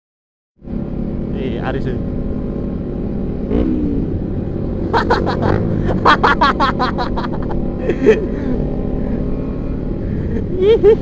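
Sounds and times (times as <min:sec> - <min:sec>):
motorcycle engine racing exhaust: 0:00.6 - 0:11.0.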